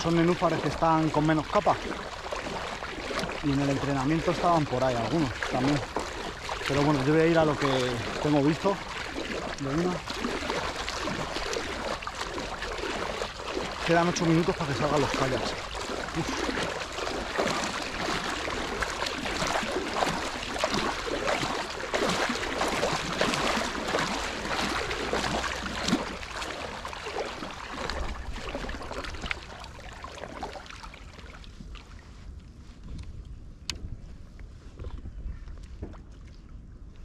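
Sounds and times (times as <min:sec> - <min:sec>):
water splashing from kicking fins: 0:00.0 - 0:32.0
water lapping: 0:00.0 - 0:33.0.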